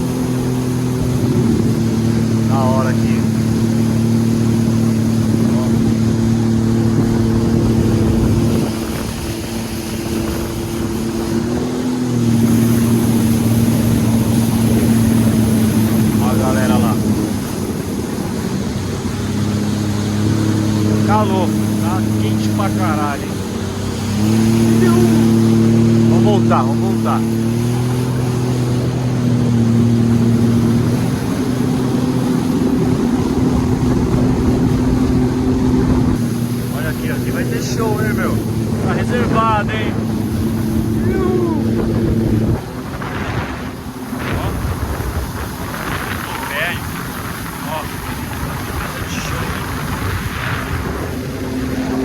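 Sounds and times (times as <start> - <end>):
engine drone with low hum: 0.0 - 52.0
low rumble of wind or water: 0.0 - 52.0.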